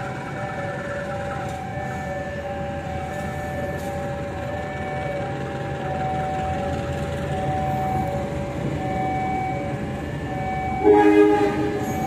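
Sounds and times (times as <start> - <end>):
diesel locomotive rumble: 0.0 - 12.0
two-tone crossing alarm: 0.0 - 12.0.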